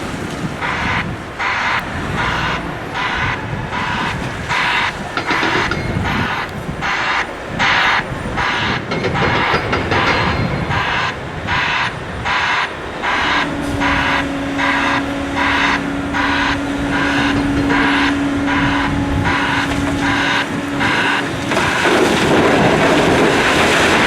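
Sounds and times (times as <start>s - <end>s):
big diesel engines running: 0.0s - 24.0s
pulsing white-noise reversing alarm: 0.0s - 24.0s
steady hum: 0.0s - 24.0s.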